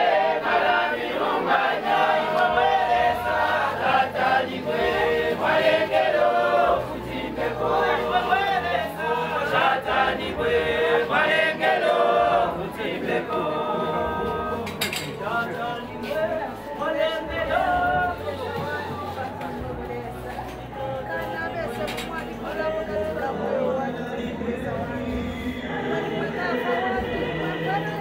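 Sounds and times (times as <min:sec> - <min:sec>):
choir singing a hymn: 0:00.0 - 0:28.0.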